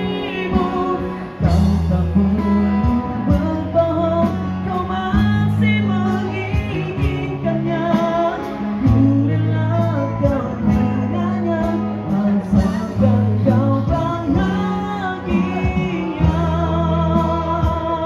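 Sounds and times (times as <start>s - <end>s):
acoustic guitar: 0.0s - 18.0s
keyboard chords: 0.0s - 18.0s
singer through pa system: 0.0s - 18.0s.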